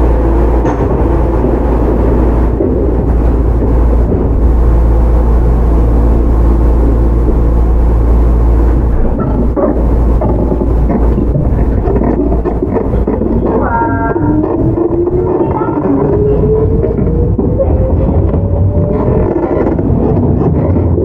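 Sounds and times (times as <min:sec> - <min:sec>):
low hum of running gear: 0:00.0 - 0:21.0
train wheels rumbling on track: 0:00.0 - 0:21.0.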